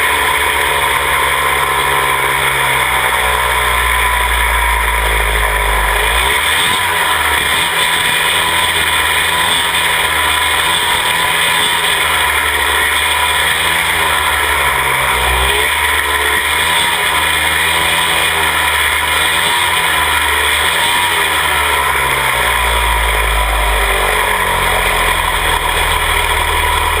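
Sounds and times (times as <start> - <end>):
race car engine: 0.0 - 27.0.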